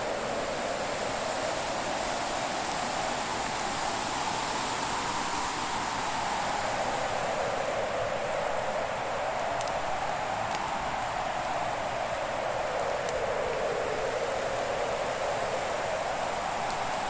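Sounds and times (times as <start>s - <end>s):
faint fire crackles: 0.0s - 17.0s.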